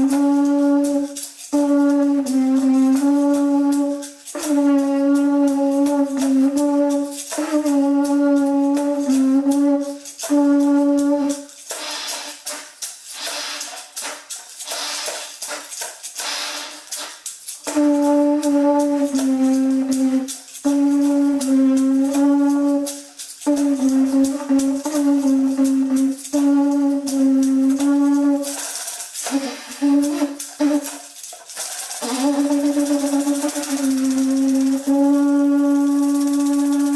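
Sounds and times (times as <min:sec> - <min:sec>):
conch trumpet blasts: 0:00.0 - 0:36.9
rattle shaken: 0:00.0 - 0:36.9.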